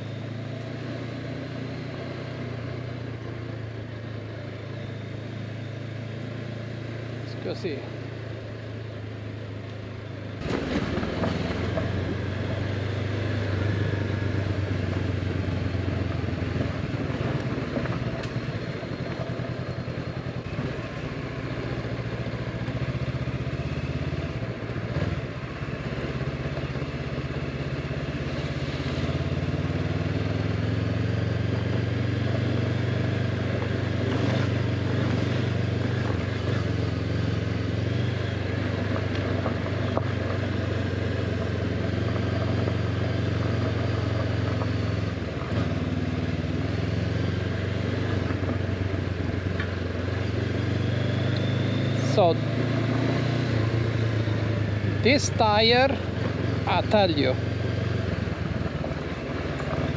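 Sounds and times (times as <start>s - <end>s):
motorcycle engine riding off: 10.4s - 59.9s.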